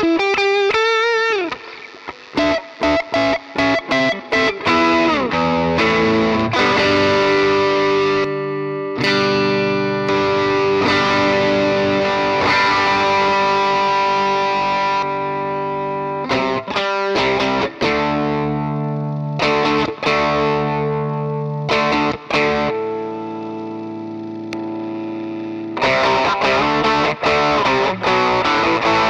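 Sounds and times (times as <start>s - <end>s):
electric guitar chords ringing: 0.0s - 29.0s
quick guitar strumming: 0.0s - 29.0s.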